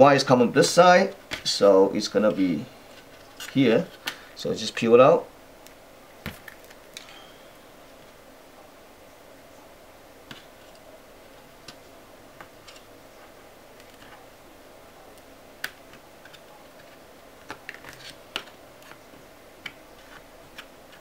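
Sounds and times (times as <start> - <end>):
low steady hiss: 0.0 - 21.0.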